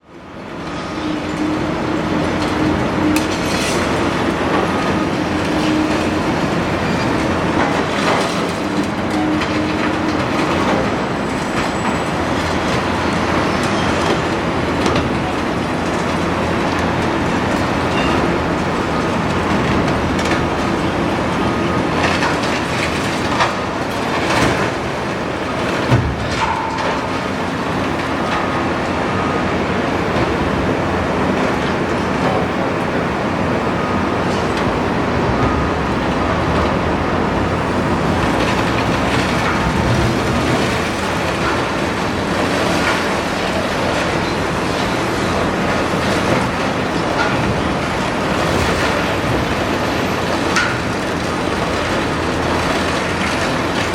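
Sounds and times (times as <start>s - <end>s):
excavator diesel engine: 0.0s - 53.9s
knocks and clanks of demolition: 1.3s - 53.9s.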